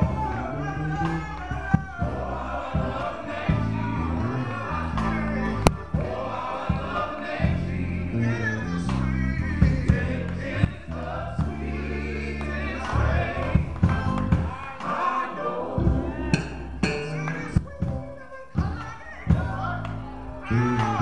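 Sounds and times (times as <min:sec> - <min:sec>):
low accompanying notes: 0:00.0 - 0:18.3
men's gospel group singing: 0:00.0 - 0:21.0.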